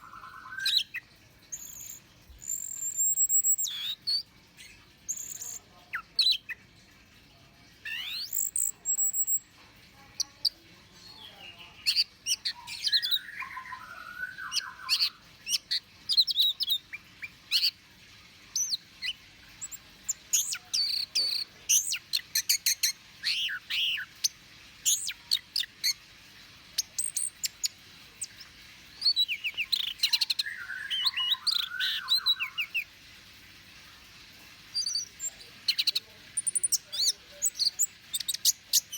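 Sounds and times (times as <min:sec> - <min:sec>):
thrush singing chirps and trills: 0:00.0 - 0:06.7, 0:07.9 - 0:09.5, 0:10.2 - 0:17.9, 0:18.5 - 0:33.0, 0:34.6 - 0:38.9.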